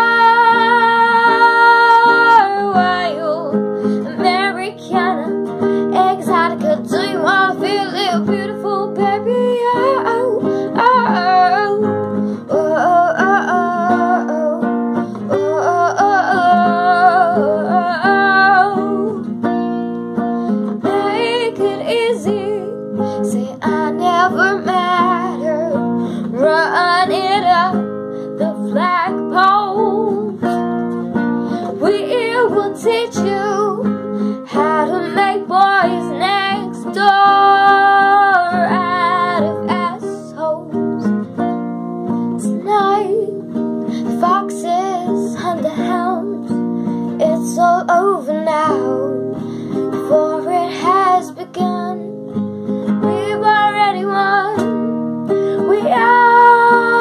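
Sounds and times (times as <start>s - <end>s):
woman singing: 0.0s - 19.6s, 20.2s - 41.6s, 42.2s - 57.0s
strummed acoustic guitar: 0.0s - 57.0s.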